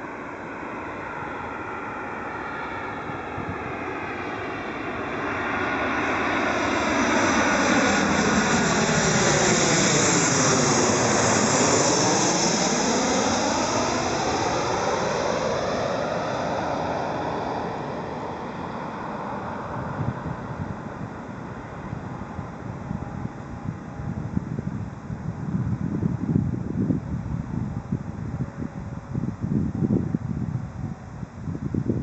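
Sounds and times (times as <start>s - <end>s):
jet airliner flying past: 0.0s - 32.0s.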